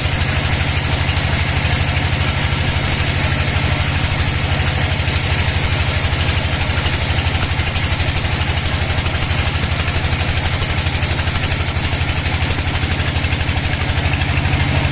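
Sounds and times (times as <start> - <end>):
engine idling with low throb: 0.0 - 14.9.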